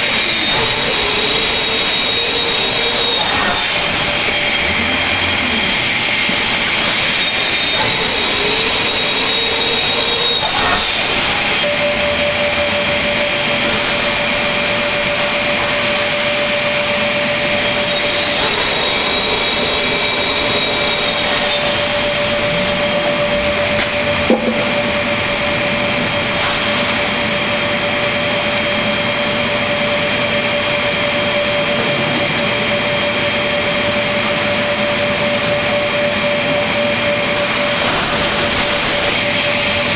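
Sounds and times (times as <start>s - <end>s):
loud steady machine noise: 0.0s - 39.9s
steady machine whine: 0.0s - 39.9s.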